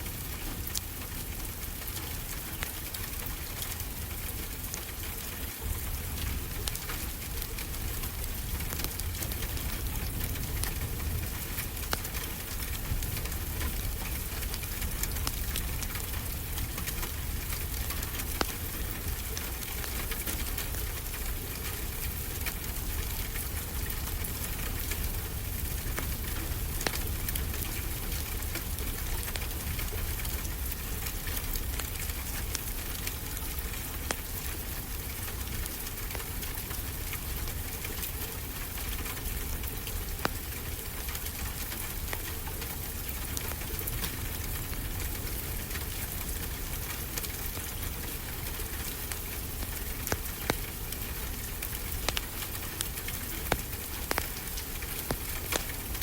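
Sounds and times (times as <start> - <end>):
steady rain falling: 0.0 - 56.0
wood fire crackling: 0.0 - 56.0.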